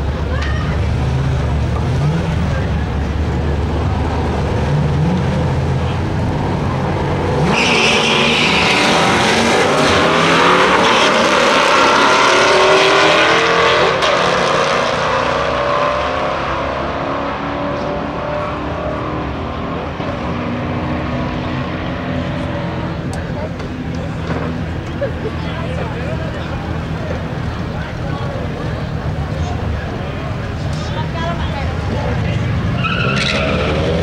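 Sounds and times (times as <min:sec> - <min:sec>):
drag racing engines revving: 0:00.0 - 0:34.0.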